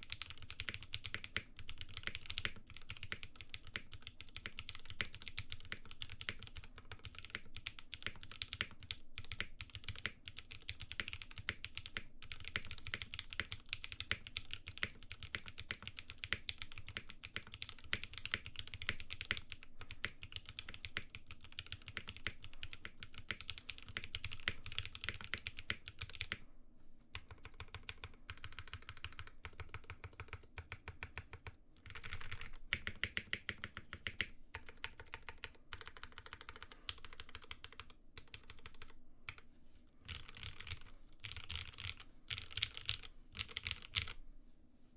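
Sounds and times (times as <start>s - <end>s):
typing on mechanical keyboard: 0.0s - 26.4s, 27.2s - 39.4s, 40.1s - 44.2s.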